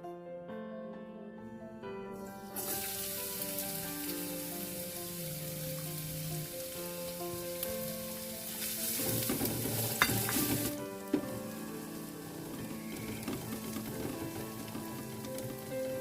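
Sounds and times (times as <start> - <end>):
soft background music: 0.0 - 16.0
food sizzling in a pan: 2.3 - 16.0.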